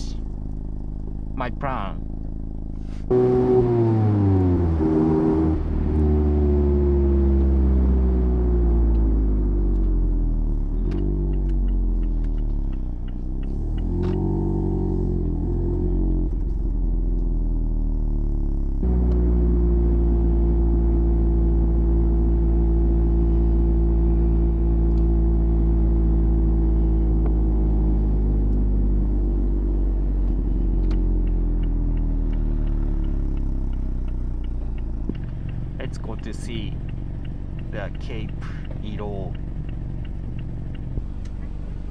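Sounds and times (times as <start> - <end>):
car engine driving: 0.0 - 41.9.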